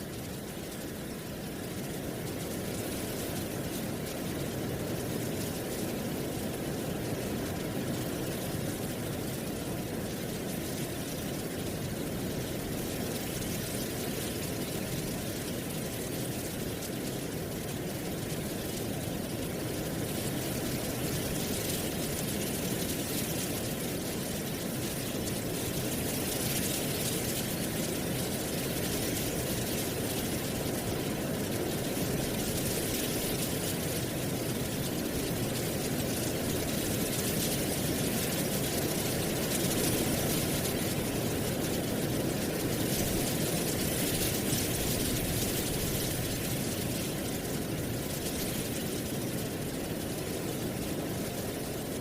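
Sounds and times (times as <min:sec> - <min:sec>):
wind rustling dry leaves: 0:00.0 - 0:52.0.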